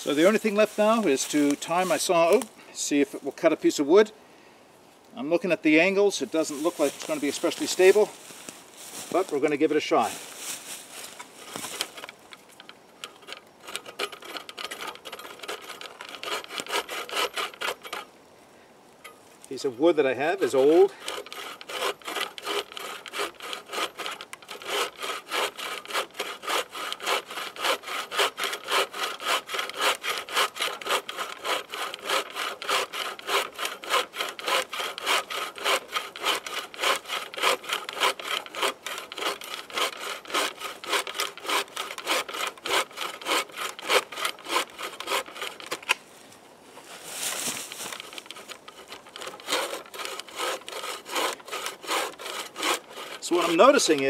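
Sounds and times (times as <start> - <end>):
saw cutting wood: 0.0 - 2.5, 6.4 - 12.1, 13.0 - 18.1, 19.5 - 46.0, 47.8 - 54.0.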